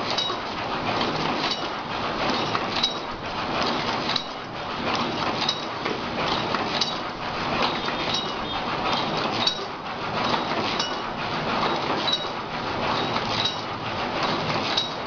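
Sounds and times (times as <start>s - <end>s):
machine mechanical clatter: 0.0s - 15.0s.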